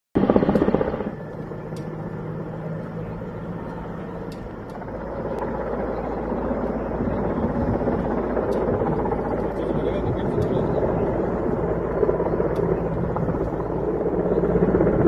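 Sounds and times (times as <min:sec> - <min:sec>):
helicopter flying overhead: 0:00.2 - 0:15.0.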